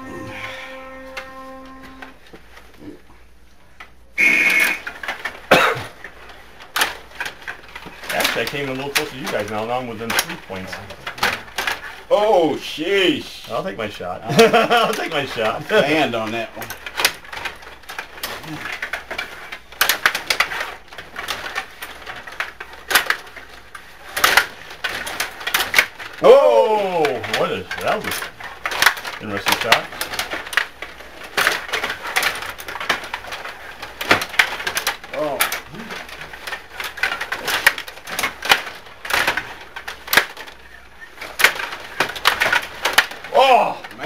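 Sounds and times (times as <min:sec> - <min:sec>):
table hockey clacks and knocks: 0:03.8 - 0:12.4, 0:14.3 - 0:44.0.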